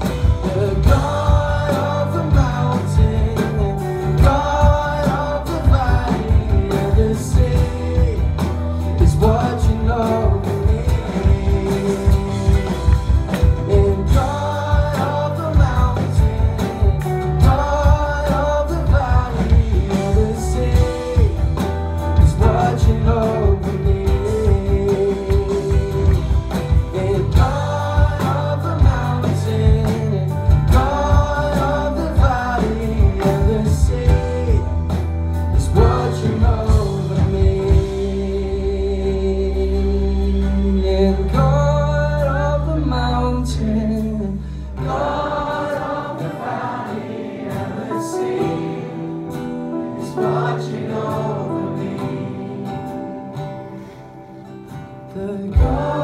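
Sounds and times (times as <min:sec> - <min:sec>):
people singing: 0:00.0 - 0:41.4, 0:44.7 - 0:54.0, 0:55.2 - 0:56.0
bass: 0:00.0 - 0:45.5, 0:54.5 - 0:56.0
acoustic guitar: 0:00.0 - 0:56.0.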